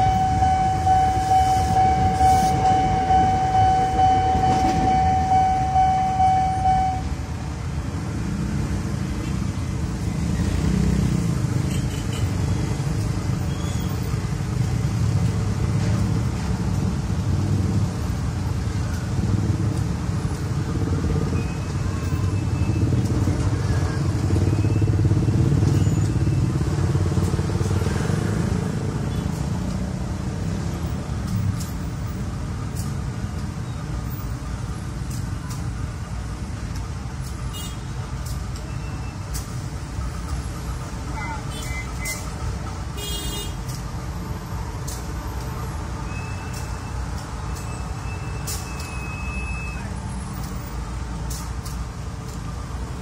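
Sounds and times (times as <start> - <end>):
traffic engines rumbling: 0.0 - 53.0.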